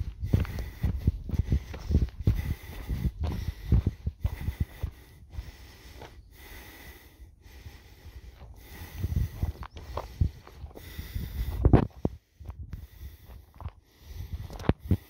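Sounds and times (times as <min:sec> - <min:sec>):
footsteps on dirt trail: 0:00.0 - 0:15.0
person breathing hard: 0:00.0 - 0:15.0.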